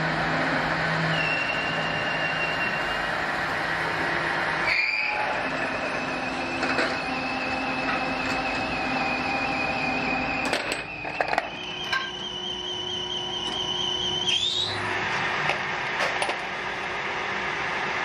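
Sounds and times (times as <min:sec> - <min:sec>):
metal lathe whining: 0:00.0 - 0:18.0.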